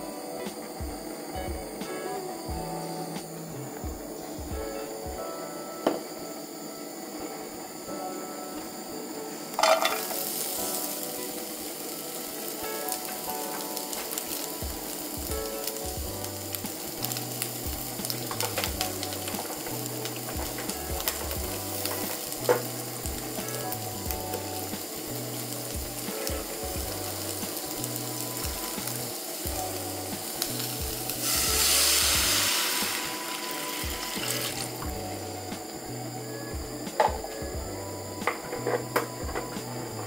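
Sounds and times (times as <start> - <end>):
onions sizzling in frying pan: 0.0 - 40.0
water hissing in hot pan: 0.0 - 40.0.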